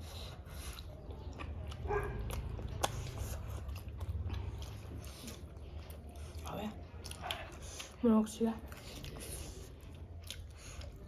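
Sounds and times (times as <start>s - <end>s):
biting and chewing food: 0.0s - 11.0s.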